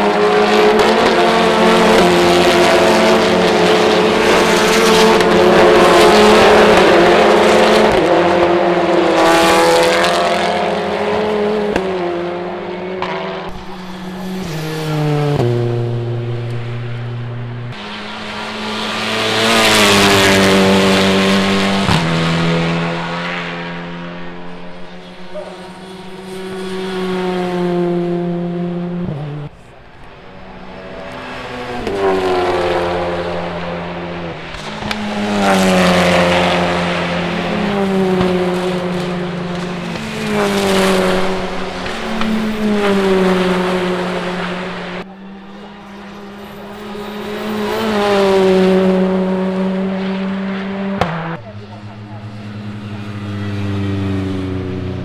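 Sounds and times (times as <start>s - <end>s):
race cars passing at high revs: 0.0s - 55.0s.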